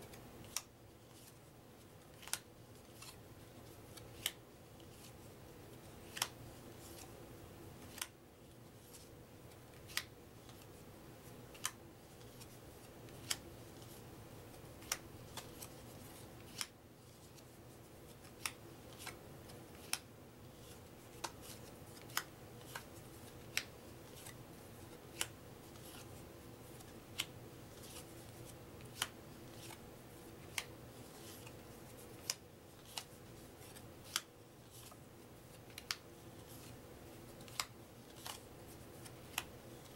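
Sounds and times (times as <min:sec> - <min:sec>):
faint room hum: 0:00.0 - 0:39.9.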